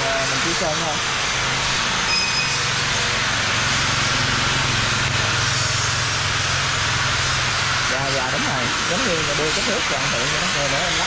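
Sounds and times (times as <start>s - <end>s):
machinery hiss: 0.0s - 11.0s.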